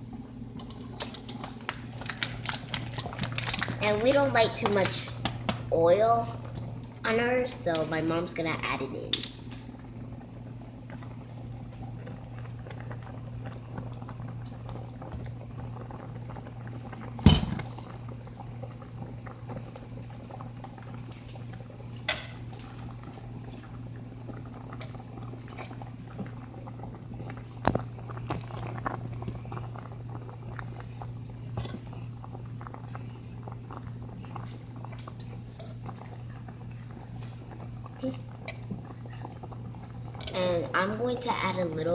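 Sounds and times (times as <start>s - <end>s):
soup simmering and bubbling: 0.0s - 7.8s, 9.1s - 41.9s
steady low hum: 0.0s - 41.9s.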